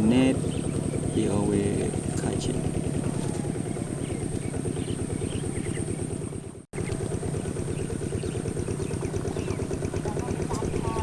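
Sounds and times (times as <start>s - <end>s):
motor drone pulsing: 0.0s - 11.0s.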